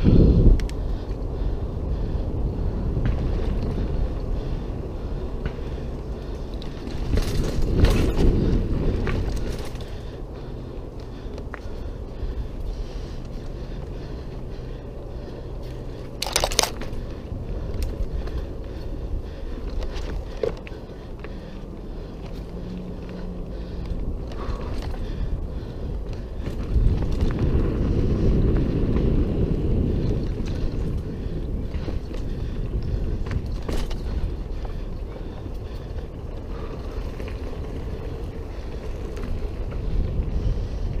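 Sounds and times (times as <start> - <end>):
bike rattling: 0.0 - 41.0
tyres rumbling on dirt: 2.4 - 41.0.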